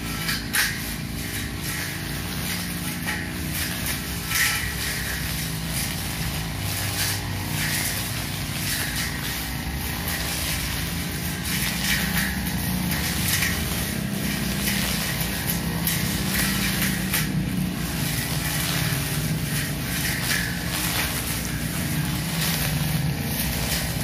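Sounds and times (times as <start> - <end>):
blade swishing through grass: 0.0 - 24.0
brush cutter engine running: 0.0 - 24.0.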